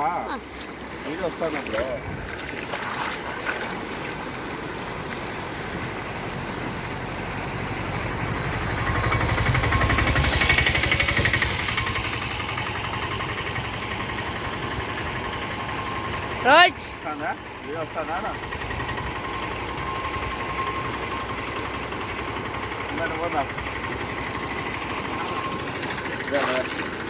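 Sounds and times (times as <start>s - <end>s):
rushing water: 0.0s - 27.0s
vehicle engine running: 0.0s - 27.0s.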